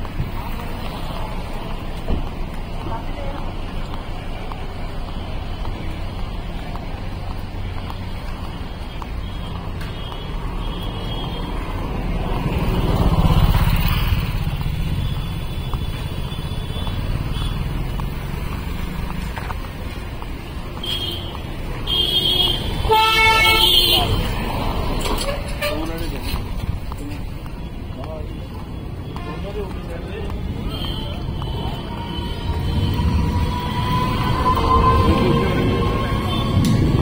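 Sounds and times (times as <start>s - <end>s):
vehicle engines running: 0.0s - 37.0s.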